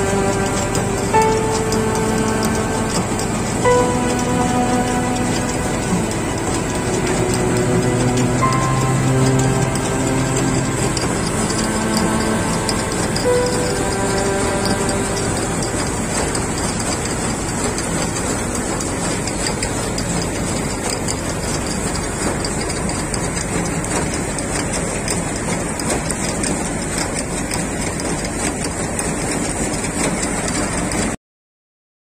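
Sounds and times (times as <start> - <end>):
combine harvester running: 0.0 - 31.2.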